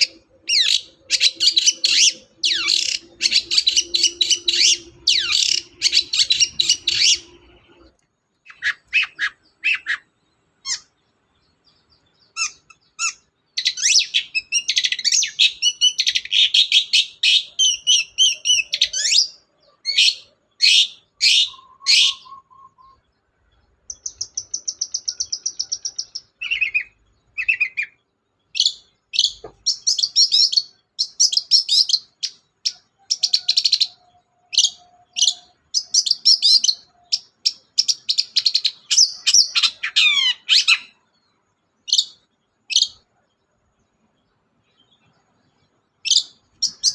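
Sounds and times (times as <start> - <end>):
bird singing chattering notes: 0.0 - 43.2, 44.0 - 46.9.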